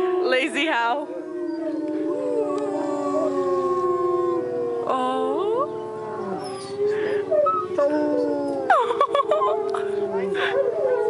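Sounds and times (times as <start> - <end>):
wolves howling: 0.0 - 11.0.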